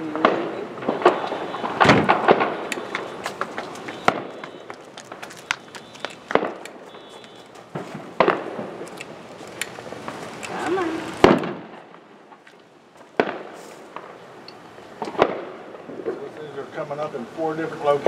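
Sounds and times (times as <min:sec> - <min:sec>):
firecrackers popping and cracking: 0:00.0 - 0:17.1.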